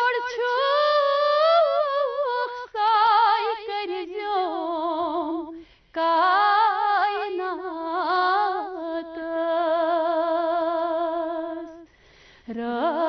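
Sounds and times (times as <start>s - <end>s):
woman singing: 0.0s - 11.9s, 12.5s - 13.0s.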